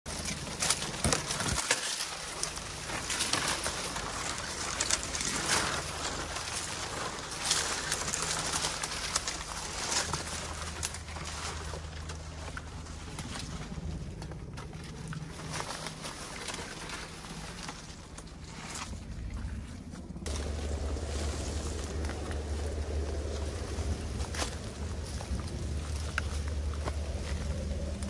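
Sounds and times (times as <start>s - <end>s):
rustling through dry leaves: 0.1s - 28.0s.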